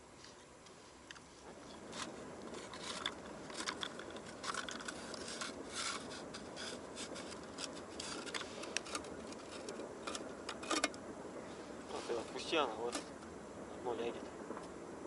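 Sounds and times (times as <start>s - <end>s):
scraping and rustling of fishing gear: 0.1s - 13.3s.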